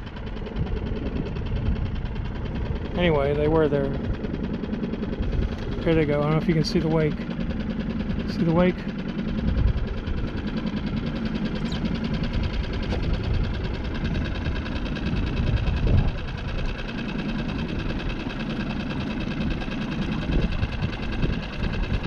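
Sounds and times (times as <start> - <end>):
mechanical hum with flutter: 0.0 - 22.0
wind buffeting microphone: 0.0 - 22.0.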